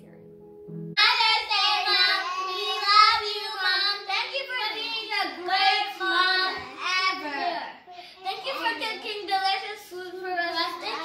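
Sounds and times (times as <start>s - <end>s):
girls singing together: 1.0s - 11.0s.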